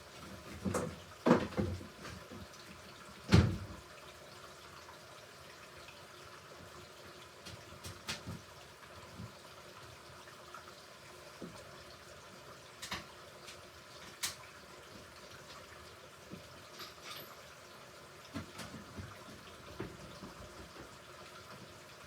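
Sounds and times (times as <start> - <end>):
washing machine water sloshing: 0.0 - 4.2, 5.9 - 22.0.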